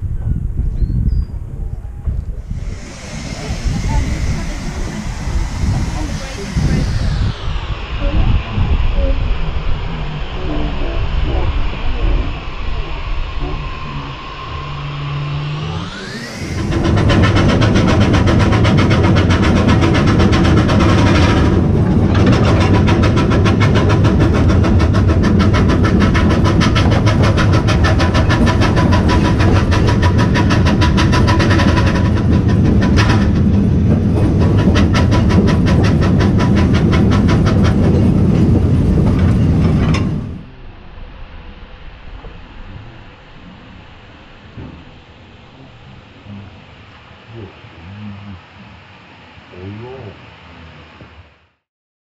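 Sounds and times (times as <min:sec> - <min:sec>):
steam locomotive exhaust beats: 0:00.0 - 0:51.4
rail noise: 0:00.0 - 0:51.6.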